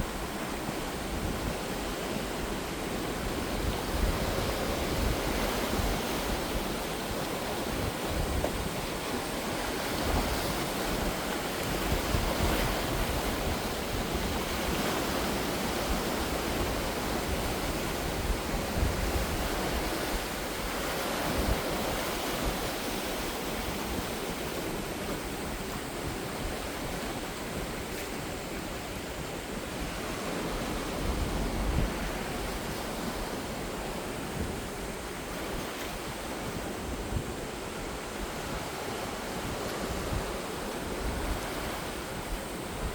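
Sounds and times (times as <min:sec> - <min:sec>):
waves breaking on shore: 0:00.0 - 0:42.9.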